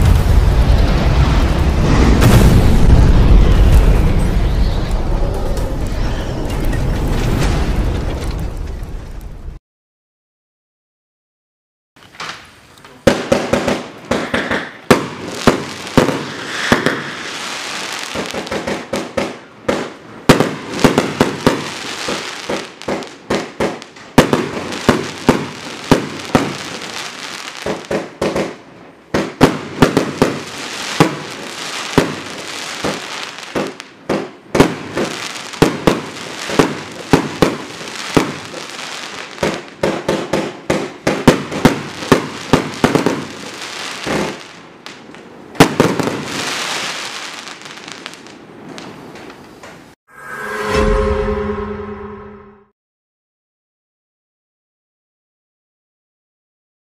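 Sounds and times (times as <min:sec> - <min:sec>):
dense firework crackle: 0:00.0 - 0:09.6, 0:12.1 - 0:50.0.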